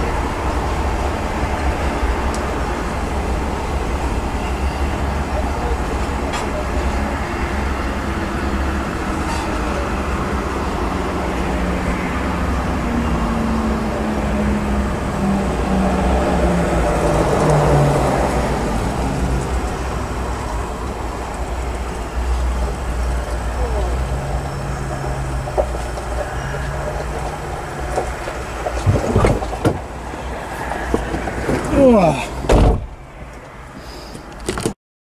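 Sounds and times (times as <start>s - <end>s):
passing engine tone: 0.0s - 32.3s
train cars rumbling on rails: 0.0s - 34.0s.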